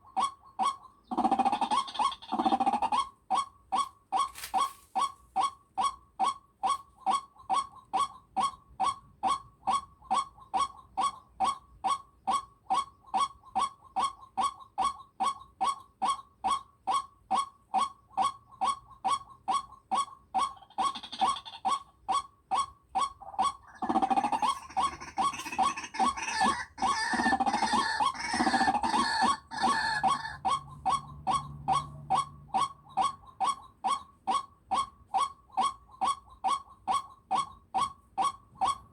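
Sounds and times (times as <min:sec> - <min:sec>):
repeated bird-like call: 0:00.0 - 0:38.9.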